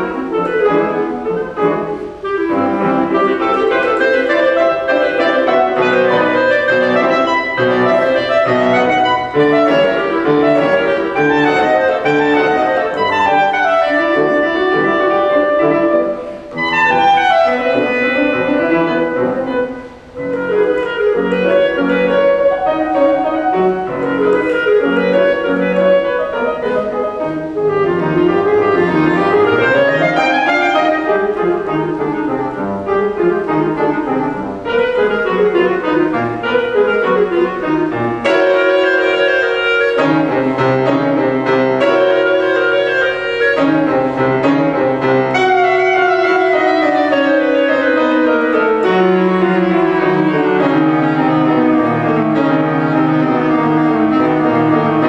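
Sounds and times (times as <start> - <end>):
clarinet melody: 0.0 - 55.0
piano accompaniment: 0.0 - 55.0.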